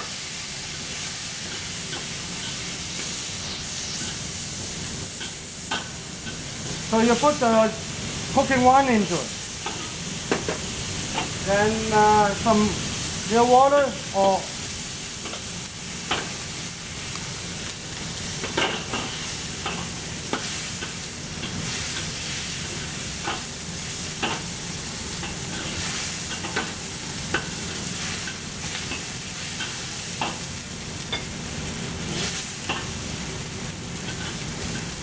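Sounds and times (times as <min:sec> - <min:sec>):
vegetables sizzling in a wok: 0:00.0 - 0:35.0.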